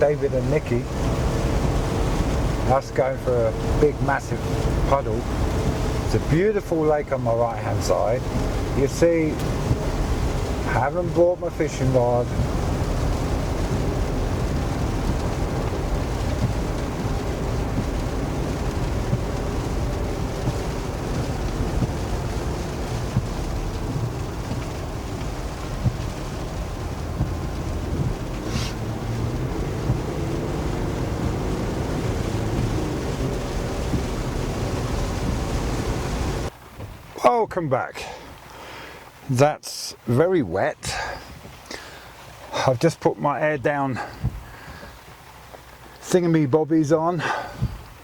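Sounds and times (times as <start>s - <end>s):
engine and road rumble: 0.0s - 48.0s
rain on a moving truck: 0.0s - 48.0s.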